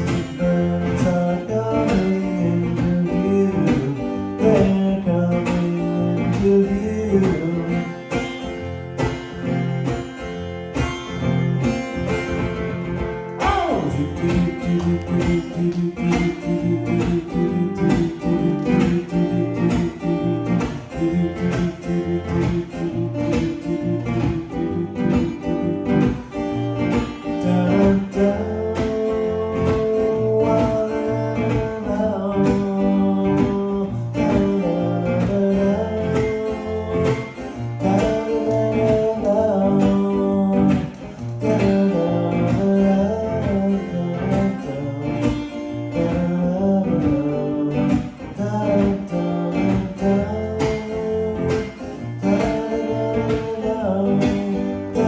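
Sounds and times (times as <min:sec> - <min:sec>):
guitar strumming: 0:00.0 - 0:55.0.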